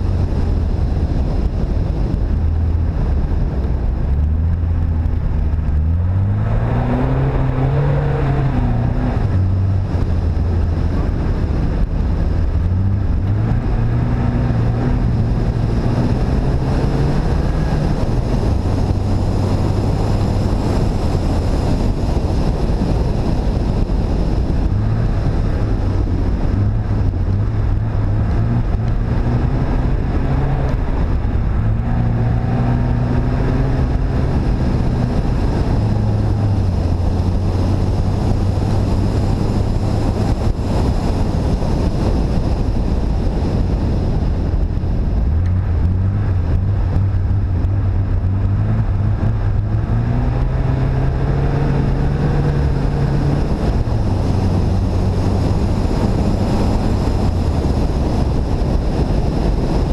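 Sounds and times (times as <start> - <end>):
car engine running: 0.0 - 59.9
wind rushing on microphone: 0.0 - 59.9.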